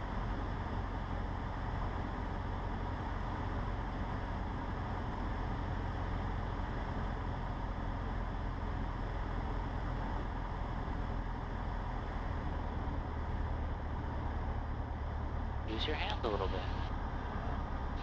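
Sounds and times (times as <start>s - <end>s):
airplane engine and propeller droning: 0.0s - 18.0s.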